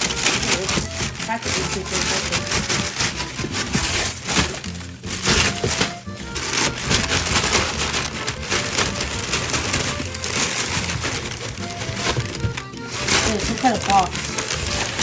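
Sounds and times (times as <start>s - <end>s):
background music: 0.0s - 15.0s
cardboard scraping and ripping: 0.0s - 15.0s.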